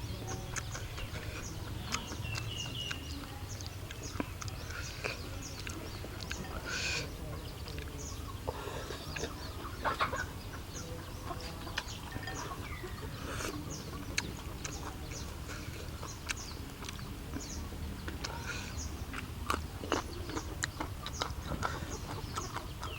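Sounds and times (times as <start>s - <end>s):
chickens clucking: 0.0s - 22.9s.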